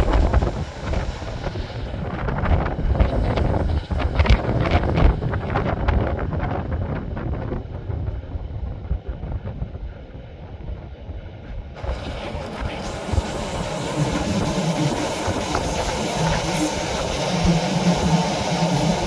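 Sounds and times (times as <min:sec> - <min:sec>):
train running noise and wind: 0:00.0 - 0:19.0.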